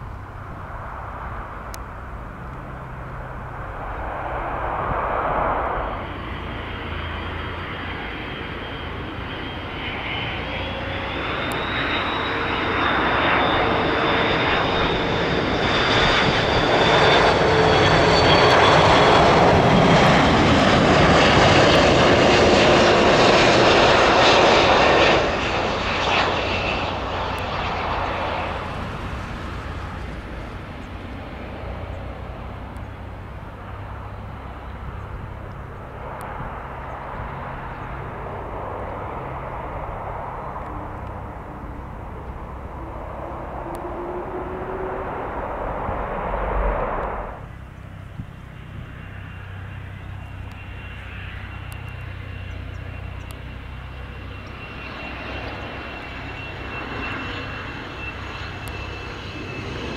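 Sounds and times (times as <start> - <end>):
jet airliner engines passing: 0.0 - 59.9.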